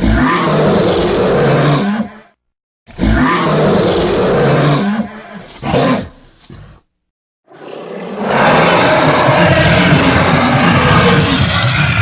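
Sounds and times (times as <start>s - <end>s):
dinosaur roar: 0.0s - 2.2s, 3.0s - 6.1s, 7.5s - 12.0s.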